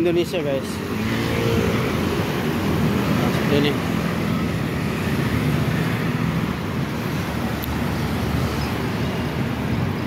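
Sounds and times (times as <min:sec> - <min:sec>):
cars passing: 0:00.0 - 0:10.0
motor scooters passing: 0:00.0 - 0:10.0.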